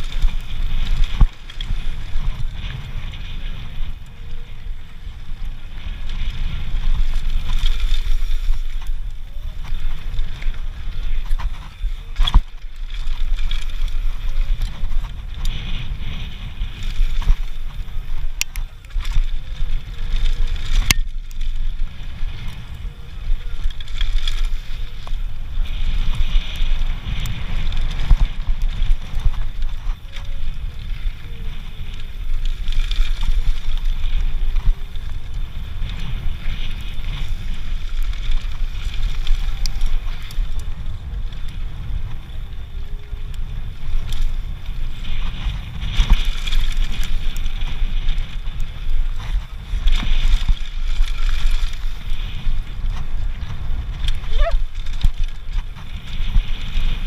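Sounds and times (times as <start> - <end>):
bike rattles and clicks: 0.0 - 57.0
tyres rumbling on dirt: 0.0 - 57.0
wind buffeting microphone: 0.0 - 57.0.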